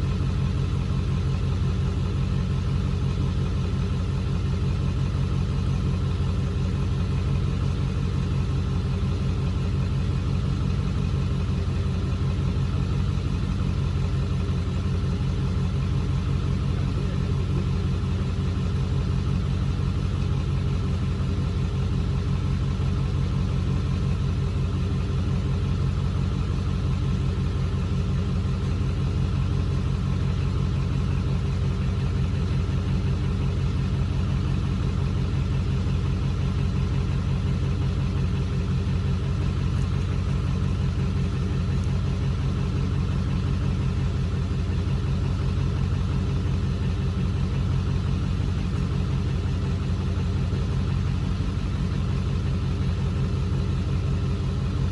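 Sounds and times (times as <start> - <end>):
car engine running steadily: 0.0 - 54.9.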